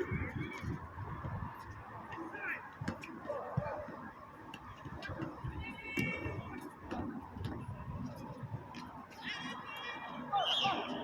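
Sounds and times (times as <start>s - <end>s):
basketball and shoes thudding: 0.0s - 8.9s.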